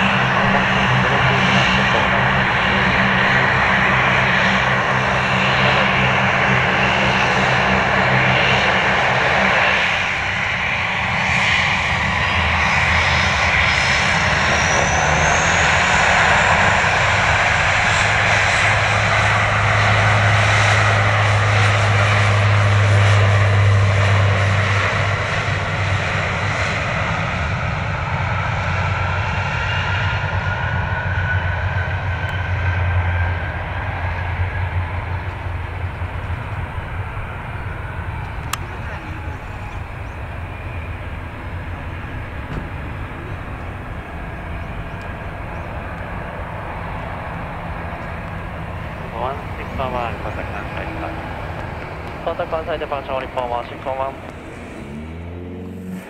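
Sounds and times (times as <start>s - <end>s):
airliner engines running: 0.0s - 56.0s
high rising engine whine: 0.0s - 56.0s.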